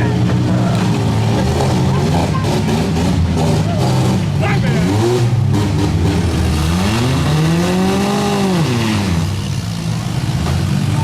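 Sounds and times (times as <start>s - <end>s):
car engines running loudly: 0.0s - 11.0s
engine revving: 0.0s - 11.0s.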